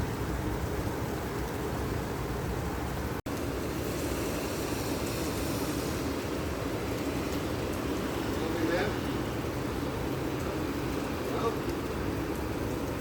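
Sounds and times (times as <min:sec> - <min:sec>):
rain: 0:00.0 - 0:13.0
wind: 0:00.0 - 0:13.0.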